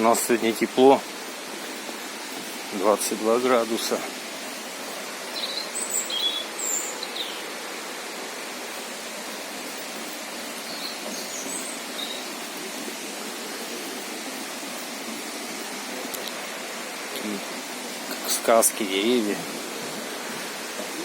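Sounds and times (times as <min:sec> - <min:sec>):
river and waterfall rushing: 0:00.0 - 0:21.0.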